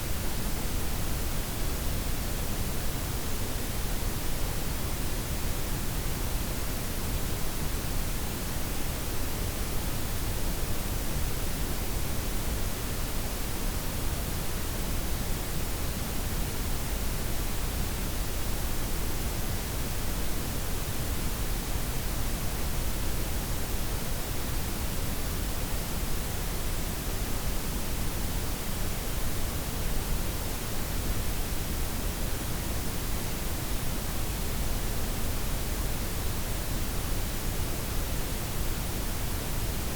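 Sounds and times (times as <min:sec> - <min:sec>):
noise hiss with low rumble: 0:00.0 - 0:39.9.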